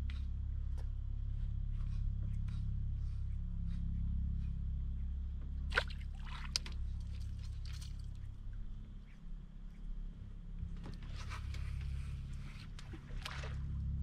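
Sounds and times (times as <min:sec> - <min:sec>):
boat engine hum: 0:01.1 - 0:14.0.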